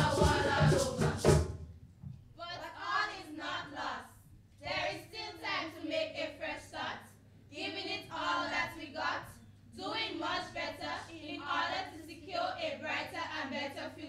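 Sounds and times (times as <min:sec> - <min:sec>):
girls singing in unison: 0:00.0 - 0:01.6, 0:02.4 - 0:14.0.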